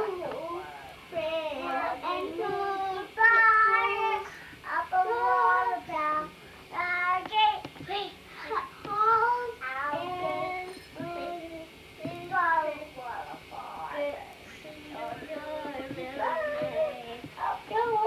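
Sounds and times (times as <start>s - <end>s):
girl singing unaccompanied: 0.0s - 18.0s.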